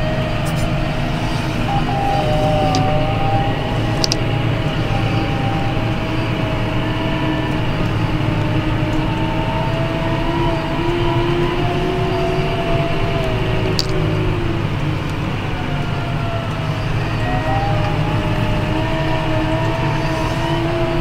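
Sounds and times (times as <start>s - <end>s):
high whine: 0.0s - 21.0s
tractor diesel engine drone: 0.0s - 21.0s.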